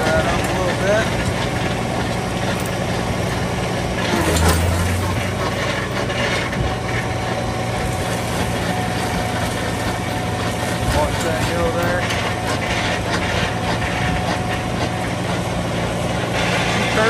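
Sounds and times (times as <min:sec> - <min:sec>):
wood chips crackling: 0:00.0 - 0:14.8
stump grinder chewing wood: 0:00.0 - 0:17.0
tractor engine running: 0:00.0 - 0:17.0.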